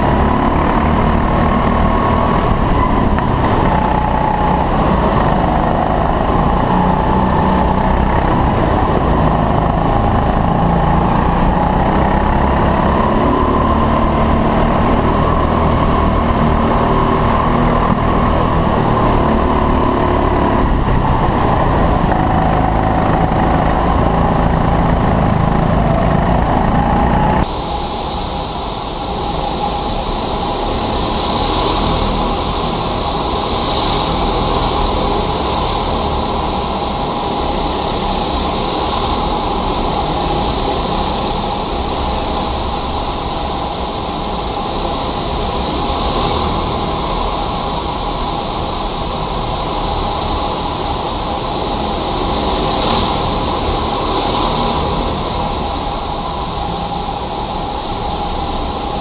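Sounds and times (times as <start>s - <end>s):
go-kart engine racing: 0.0s - 59.0s
karts passing trackside: 0.0s - 59.0s.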